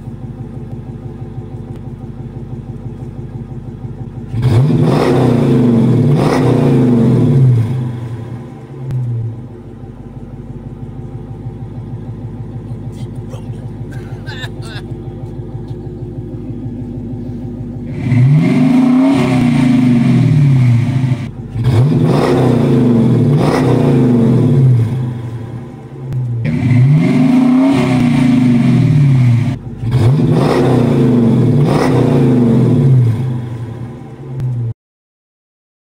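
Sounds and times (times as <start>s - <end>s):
car engine idling and revving: 0.0s - 34.8s.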